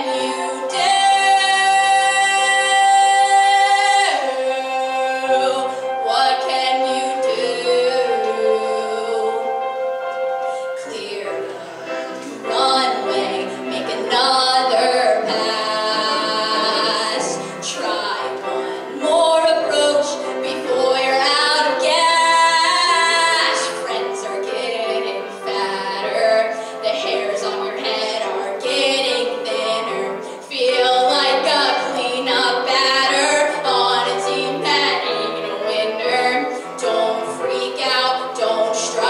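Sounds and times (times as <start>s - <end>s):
woman singing into microphone: 0.0s - 9.5s, 10.8s - 39.0s.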